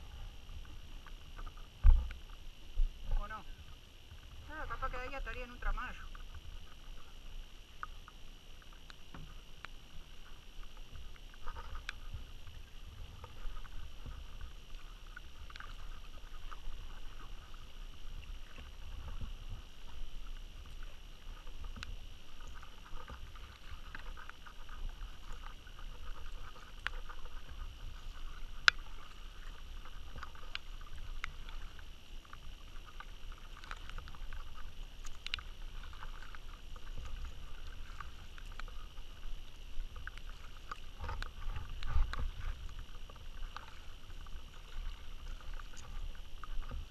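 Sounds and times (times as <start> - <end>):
water splashing around kayak: 0.0 - 46.9.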